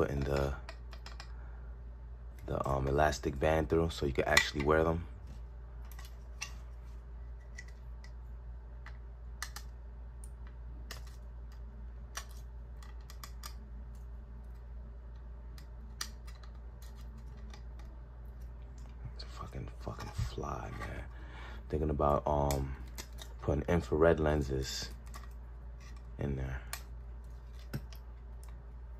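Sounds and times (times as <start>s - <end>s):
low hum: 0.0s - 28.9s.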